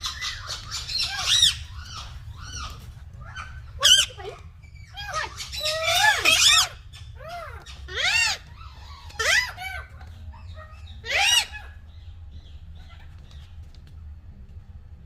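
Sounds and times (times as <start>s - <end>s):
parrots squawking: 0.0s - 13.4s.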